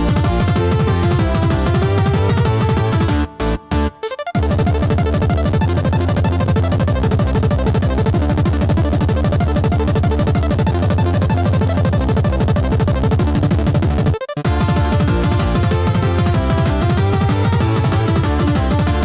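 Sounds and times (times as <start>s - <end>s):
electronic dance music: 0.0s - 19.0s.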